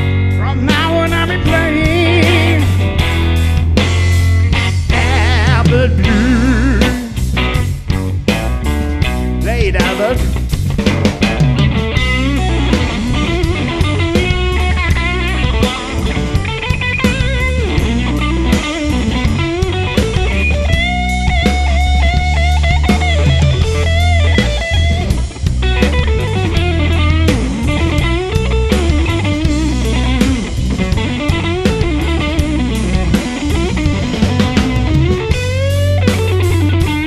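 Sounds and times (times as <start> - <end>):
bass guitar: 0.0 - 37.0
drum kit: 0.0 - 37.0
electric guitar bending notes: 0.0 - 37.0.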